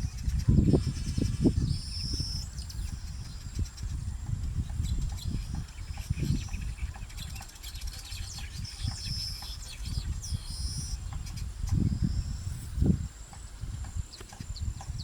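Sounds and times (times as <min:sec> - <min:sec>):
high insect drone: 0:00.0 - 0:15.0
small birds chirping: 0:00.0 - 0:15.0.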